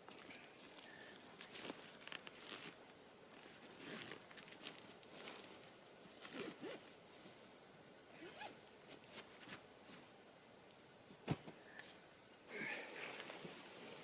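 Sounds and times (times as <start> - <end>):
faint rustles: 0.1 - 10.2, 11.1 - 14.0.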